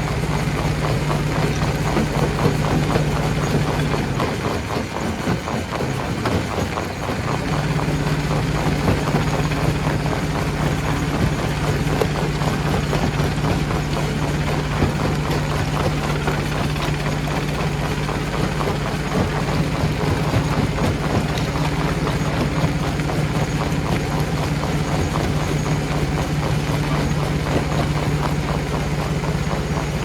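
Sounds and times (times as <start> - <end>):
stone crusher humming: 0.0 - 30.0.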